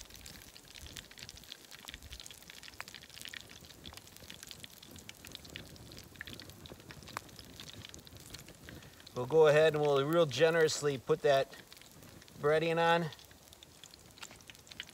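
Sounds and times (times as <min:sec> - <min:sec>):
oil crackling and popping: 0:00.0 - 0:14.9.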